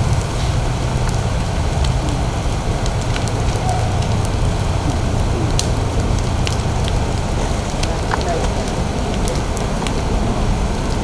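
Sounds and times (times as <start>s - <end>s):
fire crackling and popping: 0.0s - 11.0s
low rumble of fire: 0.0s - 11.0s.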